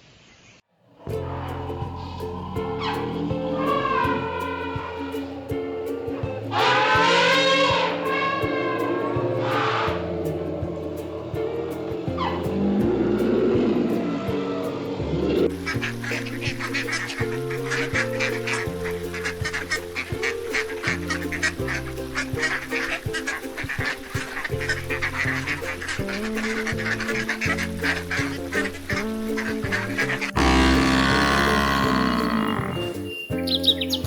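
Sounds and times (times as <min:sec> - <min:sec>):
background music of held notes: 0:01.1 - 0:34.0
rapid bird calls: 0:01.5 - 0:34.0.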